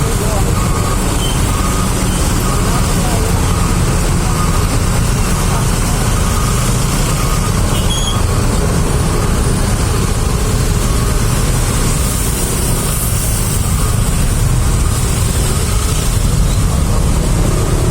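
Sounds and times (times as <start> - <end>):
traffic jam engines: 0.0 - 17.9.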